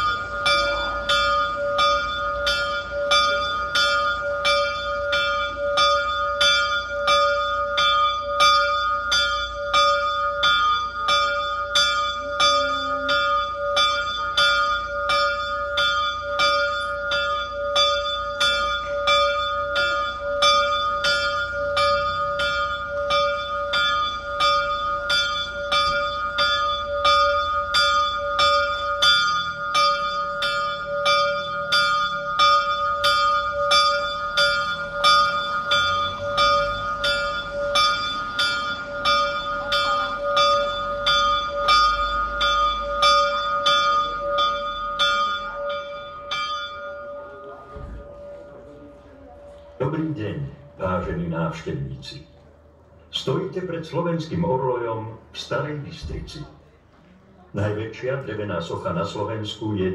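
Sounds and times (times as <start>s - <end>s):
small clock bell striking: 0.0s - 49.9s.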